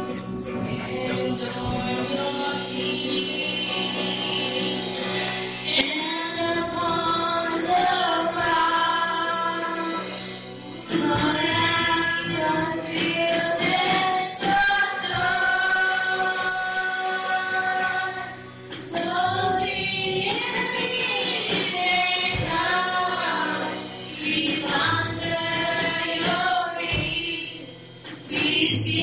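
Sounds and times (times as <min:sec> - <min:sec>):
instrumental accompaniment: 0:00.0 - 0:29.0
women singing gospel in harmony: 0:00.0 - 0:29.0.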